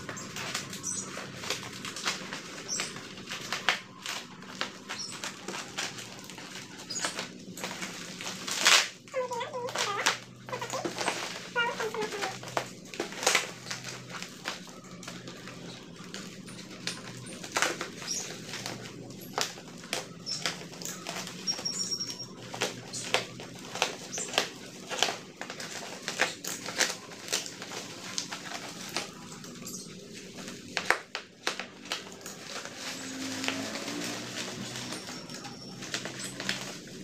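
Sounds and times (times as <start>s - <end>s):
plastic packaging crinkling: 0.0s - 37.0s.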